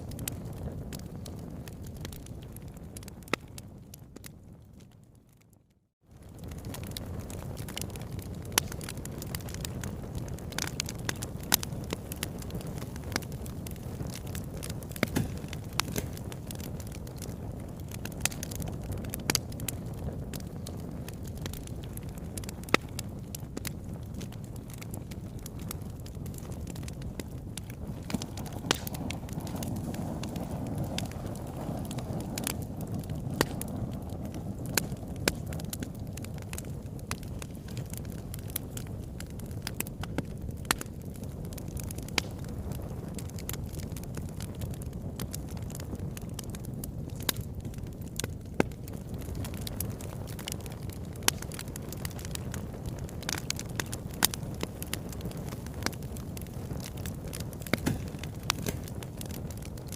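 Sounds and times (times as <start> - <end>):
fire crackling and popping: 0.0 - 59.9
low rush of flames: 0.0 - 59.9.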